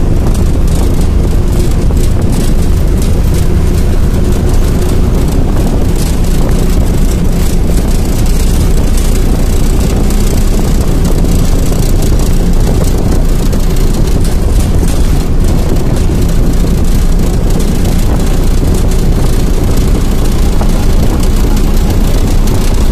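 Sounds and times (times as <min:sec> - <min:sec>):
engine drone: 0:00.0 - 0:22.9
wind and rolling noise: 0:00.0 - 0:22.9.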